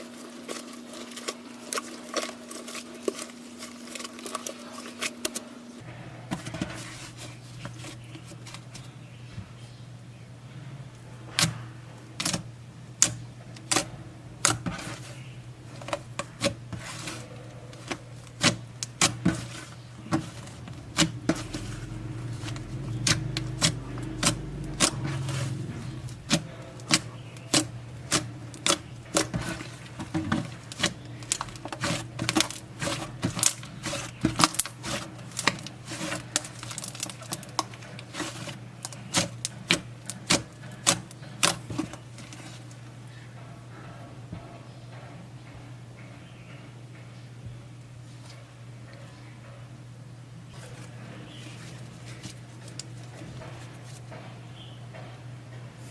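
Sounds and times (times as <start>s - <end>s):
steady low hum: 4.5s - 55.9s.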